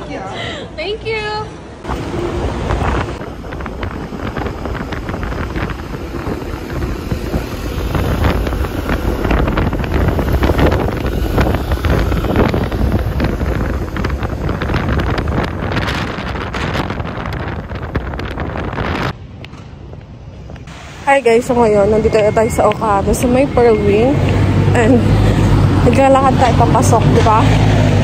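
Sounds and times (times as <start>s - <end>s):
wind buffeting microphone: 1.8s - 28.0s.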